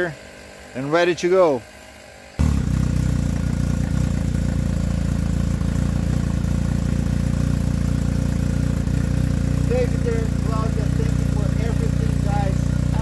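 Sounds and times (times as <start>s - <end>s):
motor pulsing hum: 0.0s - 13.0s.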